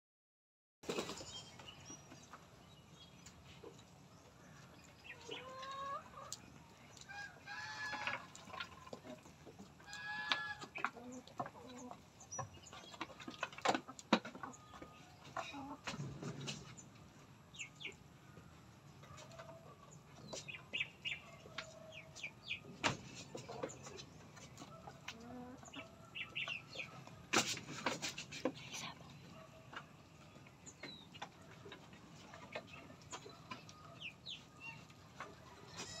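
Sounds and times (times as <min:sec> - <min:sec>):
chickens clucking: 0:00.8 - 0:36.0.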